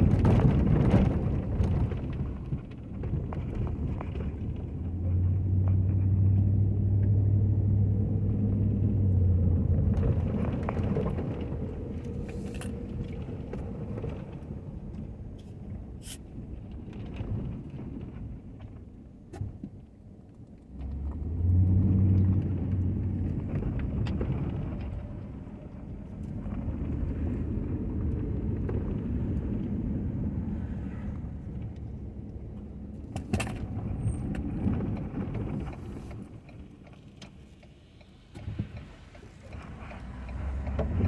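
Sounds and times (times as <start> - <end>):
pickup truck engine rumble: 0.0 - 41.0.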